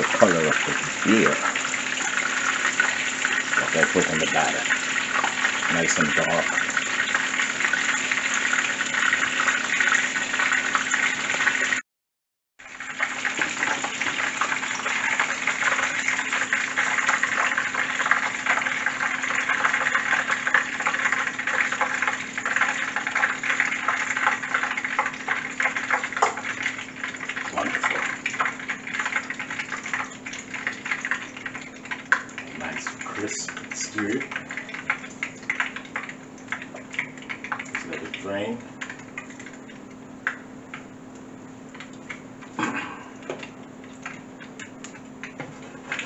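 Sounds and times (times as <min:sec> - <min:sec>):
fish frying in hot oil: 0:00.0 - 0:11.8, 0:12.6 - 0:46.0.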